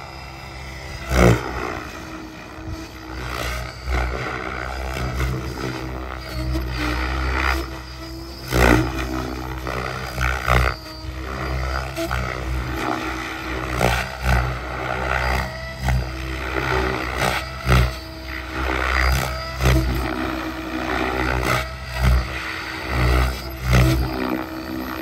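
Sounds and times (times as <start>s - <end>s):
rc helicopter motor whine: 0.0s - 25.0s
rotor blades whooshing: 0.0s - 25.0s.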